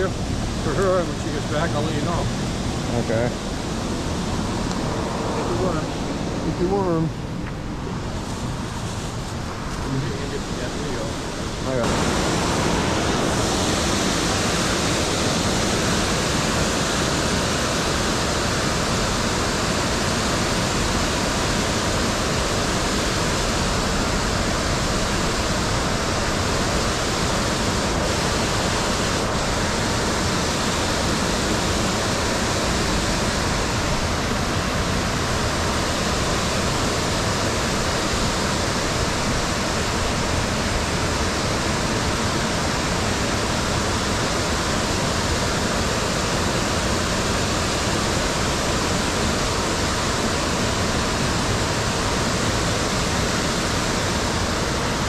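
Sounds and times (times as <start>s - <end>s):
water rushing over spillway: 0.0s - 55.0s.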